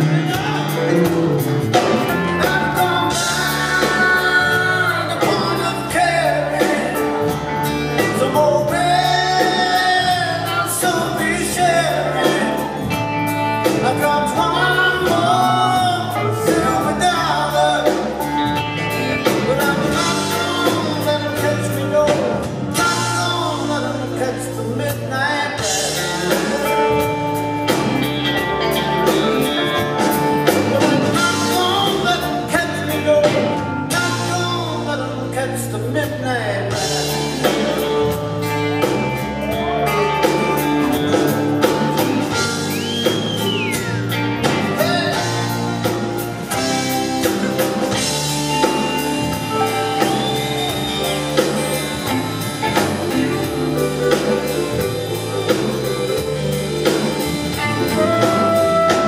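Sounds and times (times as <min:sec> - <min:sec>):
man singing: 0:00.0 - 0:51.1, 0:56.9 - 0:59.0
acoustic and electric guitars: 0:00.0 - 0:59.0
bass: 0:00.0 - 0:59.0
drums: 0:00.0 - 0:59.0.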